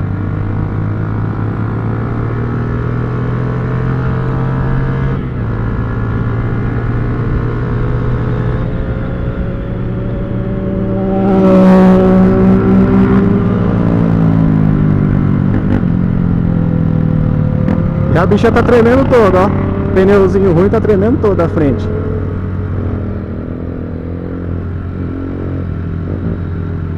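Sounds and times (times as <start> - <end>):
motorcycle engine accelerating: 0.0 - 26.9.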